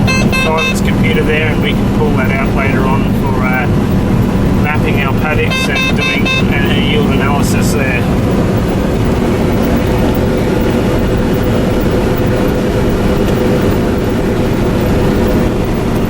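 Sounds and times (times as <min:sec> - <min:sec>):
combine harvester machine drone: 0:00.0 - 0:16.0.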